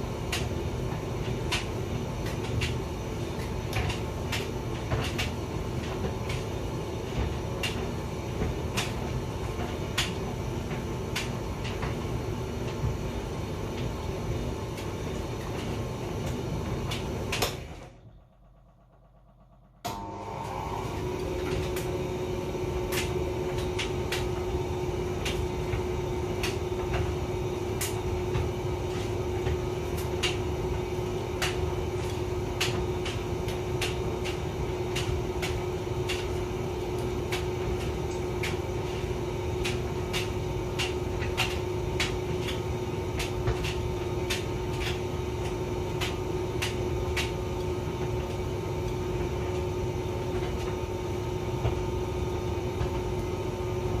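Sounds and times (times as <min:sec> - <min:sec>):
tumble dryer running: 0:00.0 - 0:54.0.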